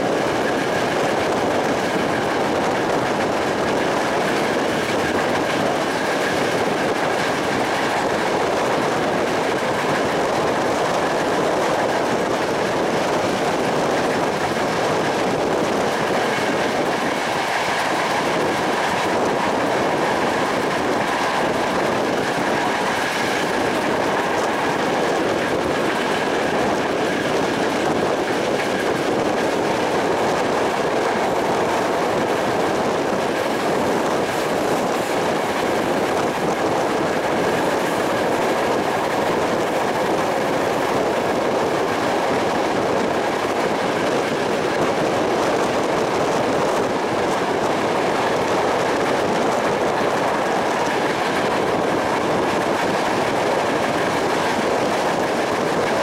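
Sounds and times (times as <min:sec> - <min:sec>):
train wheels rushing on rail: 0:00.0 - 0:56.0.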